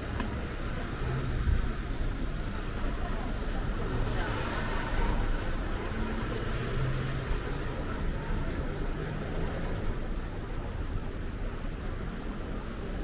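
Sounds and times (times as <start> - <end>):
street noise hiss: 0.0 - 13.0.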